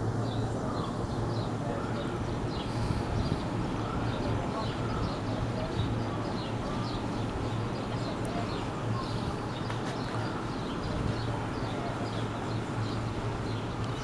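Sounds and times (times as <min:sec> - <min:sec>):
outdoor background noise: 0:00.0 - 0:14.0
birds chirping: 0:00.2 - 0:14.0.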